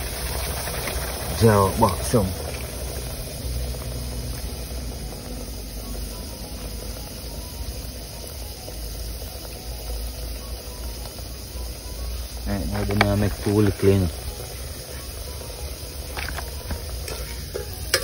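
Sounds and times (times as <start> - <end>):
dumpling sizzling in oil: 0.0 - 18.0
insects chirping: 0.0 - 18.0.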